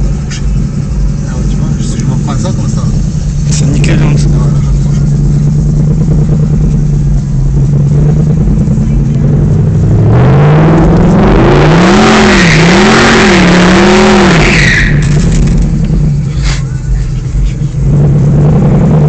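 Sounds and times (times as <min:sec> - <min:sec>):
sports car engine accelerating: 0:00.0 - 0:19.0.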